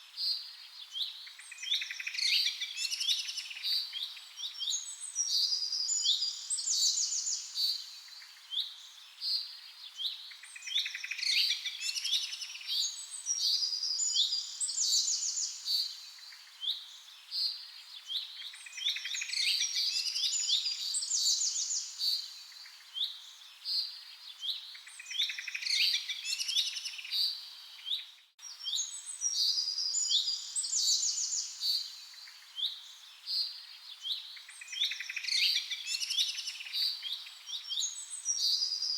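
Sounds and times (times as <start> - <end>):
songbirds chirping and trilling: 0.2 - 38.9.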